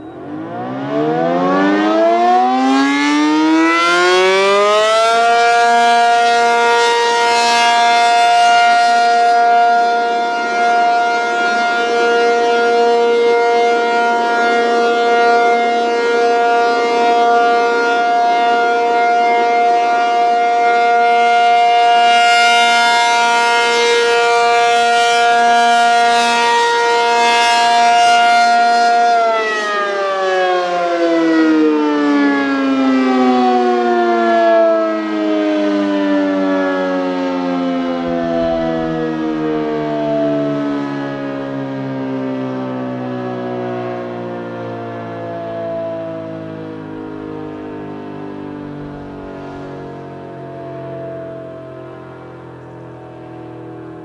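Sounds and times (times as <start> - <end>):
warning siren tone: 0.0 - 54.0.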